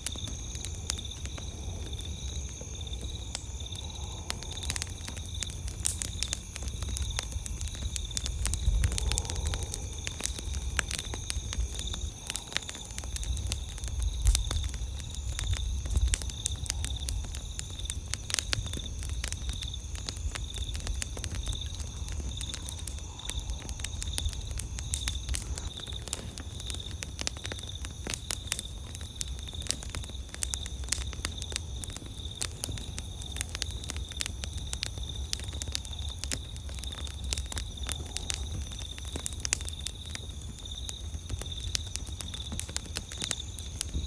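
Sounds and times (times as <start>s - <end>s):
campfire wood crackling: 0.0s - 44.0s
insects chirping: 0.0s - 44.0s
low fire rumble: 0.0s - 44.0s.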